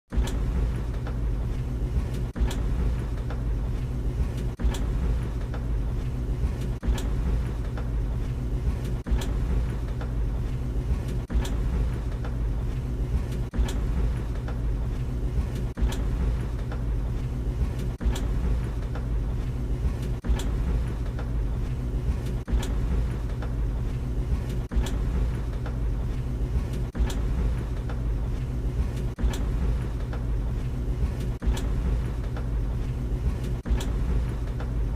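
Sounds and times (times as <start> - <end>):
dryer drum knocking: 0.1 - 34.9
tumble dryer hum and rumble: 0.1 - 34.9.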